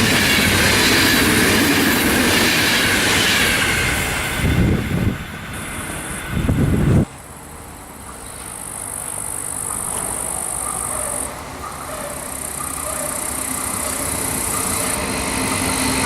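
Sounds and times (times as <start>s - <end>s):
train rumble: 0.0s - 7.3s, 8.4s - 16.0s.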